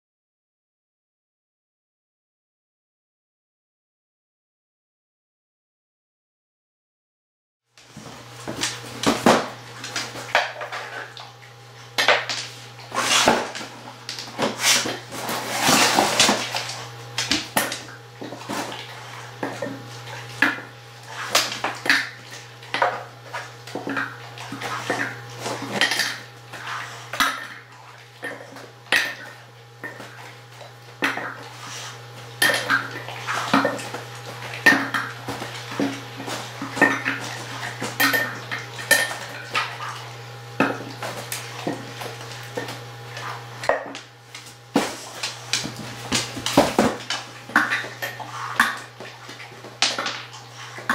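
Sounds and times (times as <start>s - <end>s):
dog eating from metal bowl: 8.4s - 50.9s.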